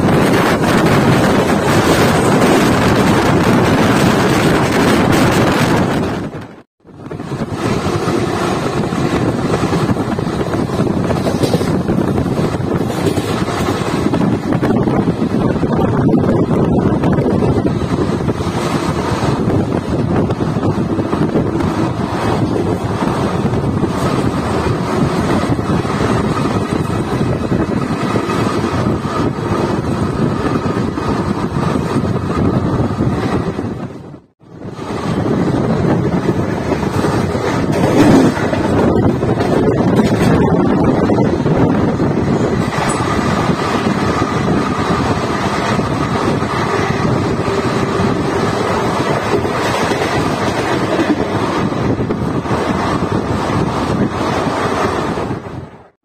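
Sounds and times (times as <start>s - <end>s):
rushing wind: 0.0s - 56.0s
train wheels rumbling on track: 0.0s - 56.0s.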